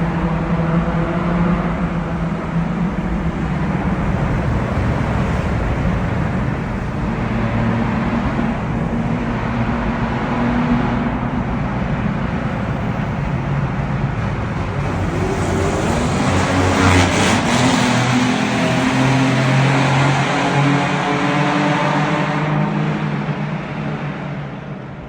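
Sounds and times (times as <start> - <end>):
car exhaust droning: 0.0 - 21.2
road noise: 0.0 - 25.0.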